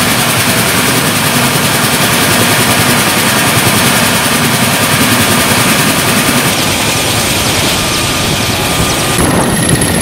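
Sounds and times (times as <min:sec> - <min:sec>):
helicopter engines and rotor: 0:00.0 - 0:10.0.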